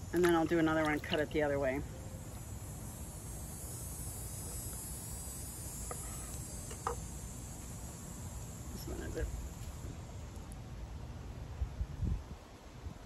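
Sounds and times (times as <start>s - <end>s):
faint high hiss: 0.0s - 12.9s.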